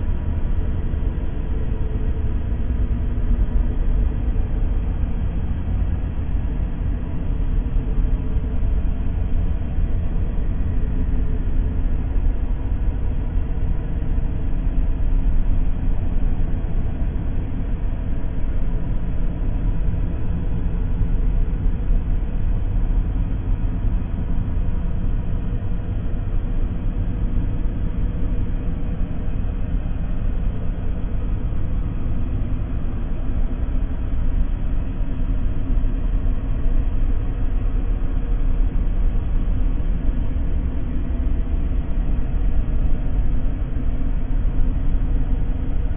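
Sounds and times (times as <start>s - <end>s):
deep rumbling drone: 0.0s - 45.9s.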